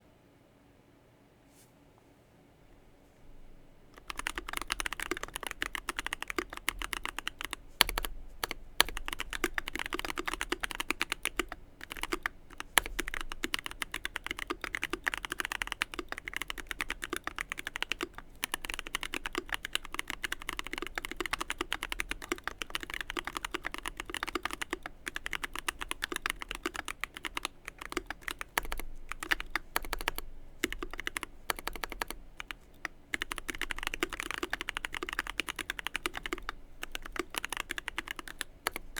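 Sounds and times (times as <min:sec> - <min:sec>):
mechanical keyboard typing: 0:04.0 - 0:38.9.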